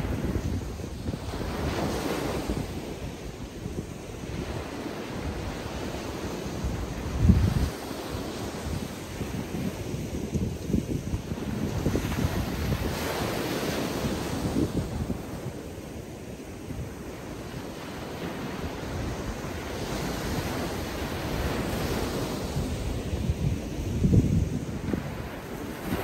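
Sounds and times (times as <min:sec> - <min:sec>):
surf washing onto beach: 0:00.0 - 0:26.0
wind buffeting microphone: 0:00.0 - 0:26.0.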